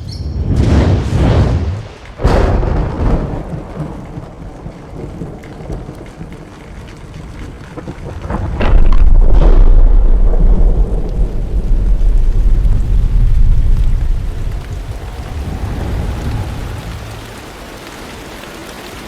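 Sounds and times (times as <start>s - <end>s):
rain: 0.3s - 19.0s
thunderclaps with rolling rumble: 0.3s - 19.0s.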